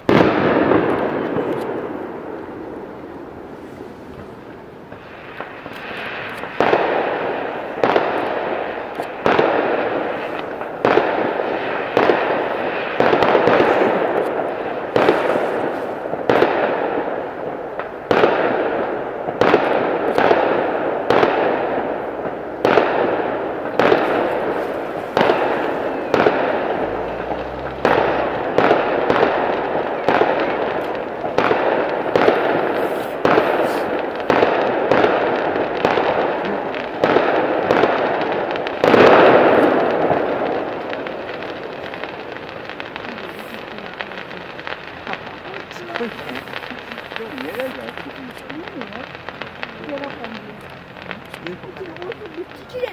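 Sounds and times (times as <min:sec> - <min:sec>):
fireworks banging and crackling: 0:00.0 - 0:52.9.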